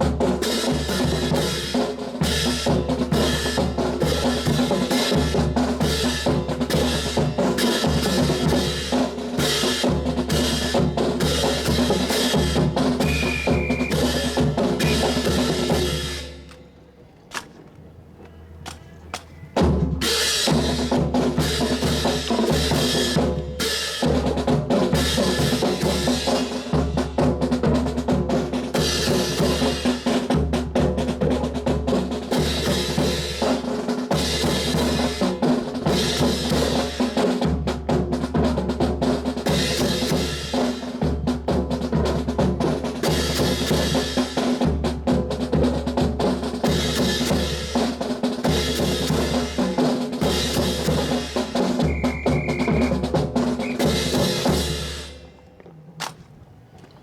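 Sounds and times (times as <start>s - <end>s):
drum-led music: 0.0s - 16.6s, 18.7s - 55.3s.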